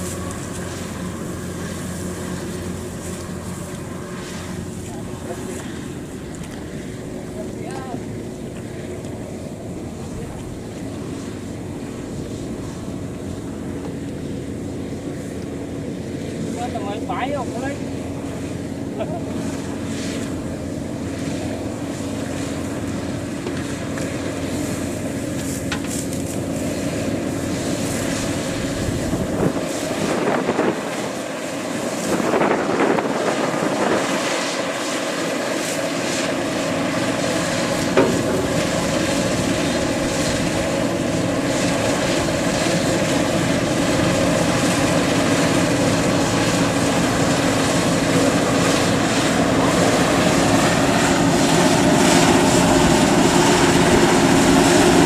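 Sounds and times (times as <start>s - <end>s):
combine harvester engine droning: 0.0s - 55.0s.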